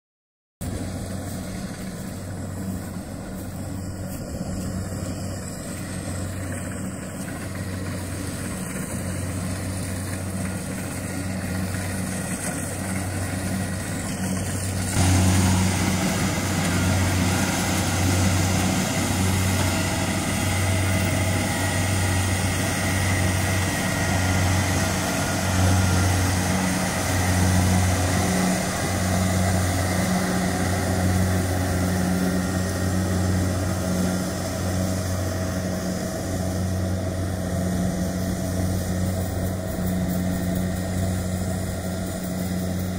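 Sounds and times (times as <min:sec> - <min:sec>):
combine harvester diesel engine: 0:00.6 - 0:42.9.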